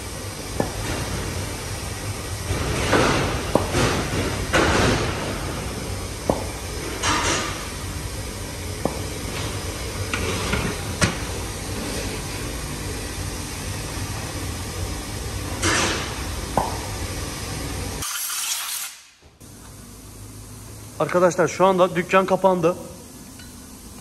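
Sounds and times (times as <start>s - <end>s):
low workshop hum: 0.0s - 24.0s.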